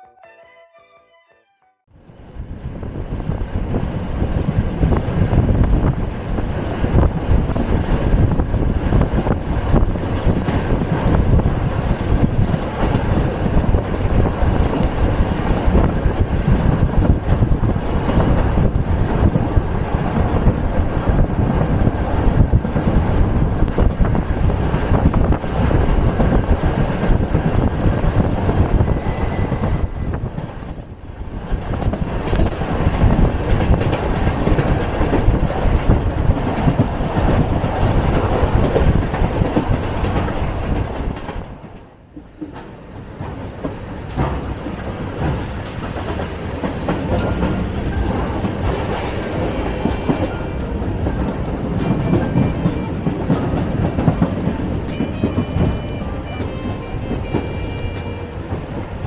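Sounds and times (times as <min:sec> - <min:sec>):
train wheels rumbling on rails: 0:02.0 - 0:59.0.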